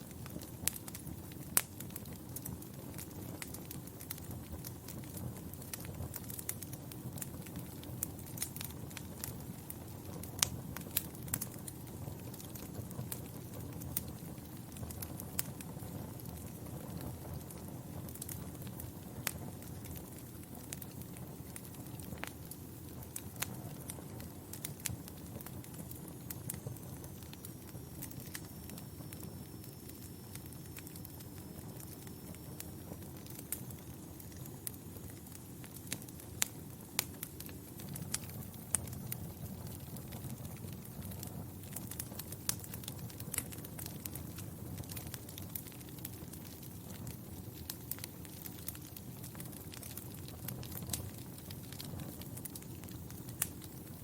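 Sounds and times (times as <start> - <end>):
sharp pops of fire: 0.0 - 54.0
wood fire crackling: 0.0 - 54.0.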